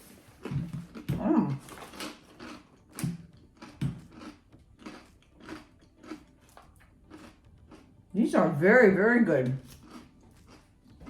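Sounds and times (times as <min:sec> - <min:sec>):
person chewing crunchy crackers: 0:00.0 - 0:08.4, 0:09.6 - 0:11.0.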